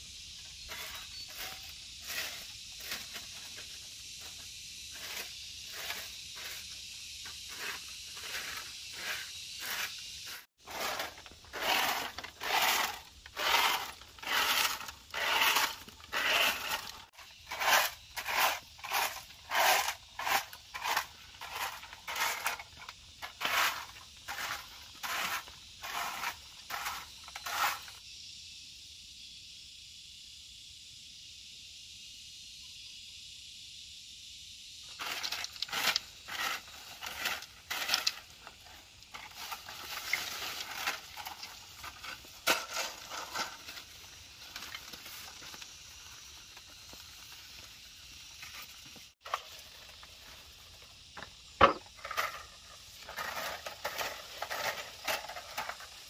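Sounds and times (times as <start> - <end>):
garden tool scraping dry ground: 0.0 - 28.0, 34.9 - 56.0.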